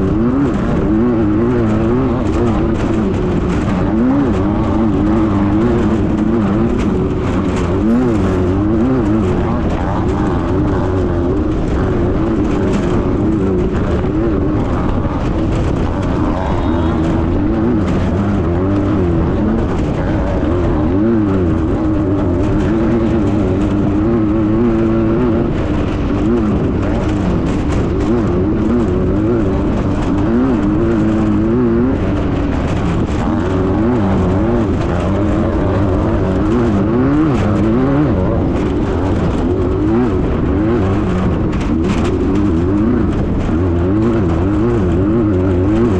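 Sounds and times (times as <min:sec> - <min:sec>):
buggy engine revving: 0:00.0 - 0:45.9
knocks and rattles: 0:00.0 - 0:45.9.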